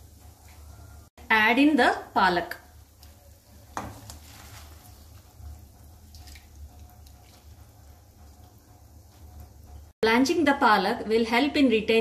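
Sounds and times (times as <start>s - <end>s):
water boiling in a pan: 0.0s - 10.9s.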